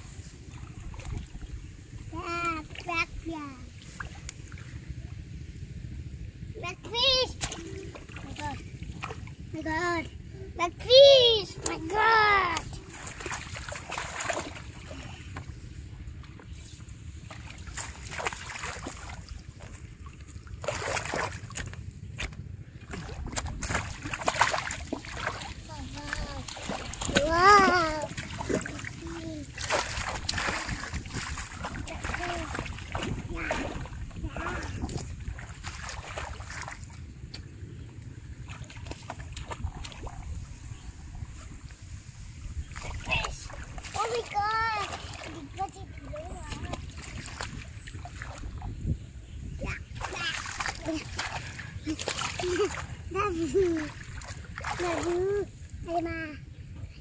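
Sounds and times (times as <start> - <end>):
muddy water splashing: 0.0 - 56.0
wind rumble on microphone: 0.0 - 57.0.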